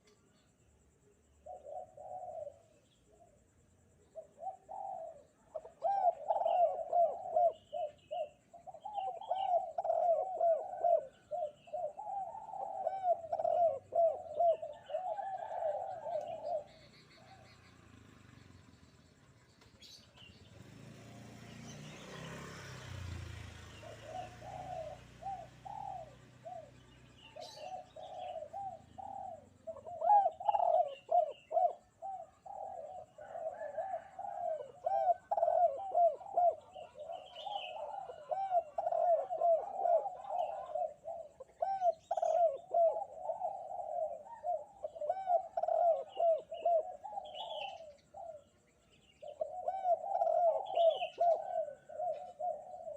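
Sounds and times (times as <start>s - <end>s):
dove cooing: 0.0s - 0.3s, 1.3s - 52.9s
small birds chirping: 0.0s - 52.9s.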